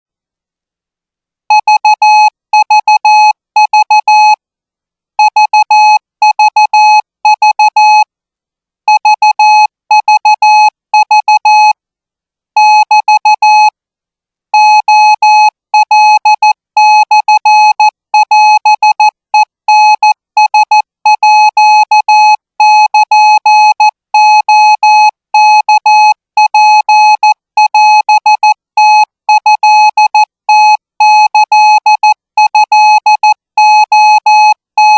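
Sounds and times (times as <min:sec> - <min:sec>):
morse code beeps: 0:01.5 - 0:04.4, 0:05.2 - 0:08.0, 0:08.9 - 0:11.7, 0:14.6 - 0:34.9.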